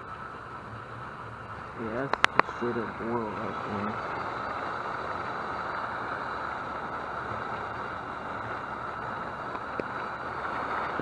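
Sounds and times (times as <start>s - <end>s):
water boiling and sizzling: 0.0s - 11.0s.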